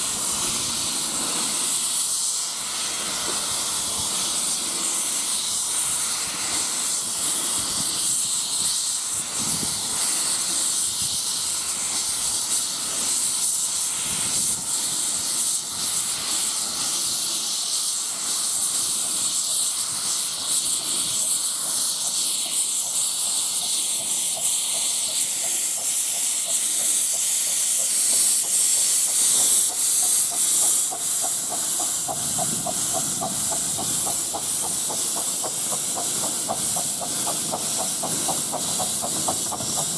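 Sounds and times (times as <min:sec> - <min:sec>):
fast regular locomotive beat: 0:00.0 - 0:39.9
steam locomotive hissing: 0:00.0 - 0:39.9.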